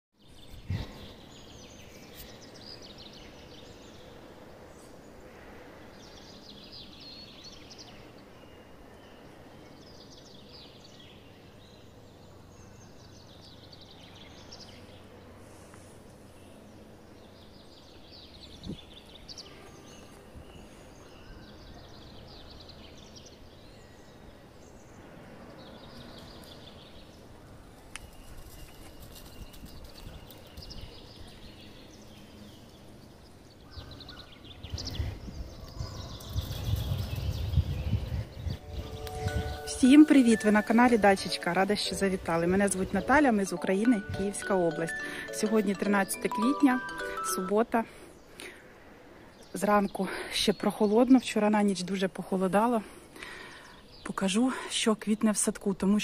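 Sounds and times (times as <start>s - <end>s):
songbirds singing: 0.1s - 56.0s
low steady background noise: 0.2s - 36.8s, 37.5s - 56.0s.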